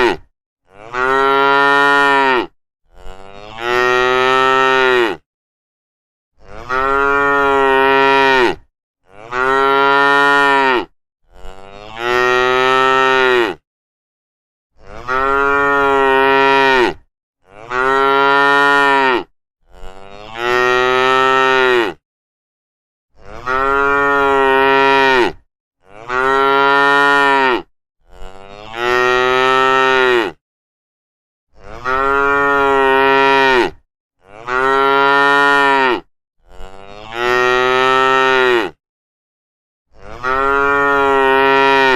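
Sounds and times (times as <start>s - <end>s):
cattle mooing: 0.0s - 5.2s, 6.4s - 13.6s, 14.8s - 22.0s, 23.2s - 30.4s, 31.6s - 38.8s, 40.0s - 41.9s.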